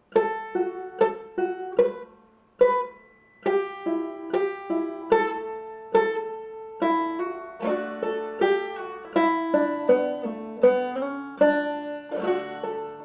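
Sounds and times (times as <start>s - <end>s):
banjo picking: 0.0s - 13.0s.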